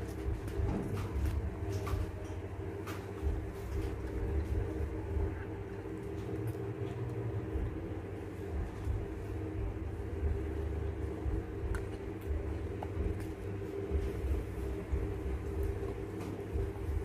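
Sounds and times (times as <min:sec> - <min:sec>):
low rumble: 0:00.0 - 0:17.0
steady multi-tone hum: 0:00.0 - 0:17.0.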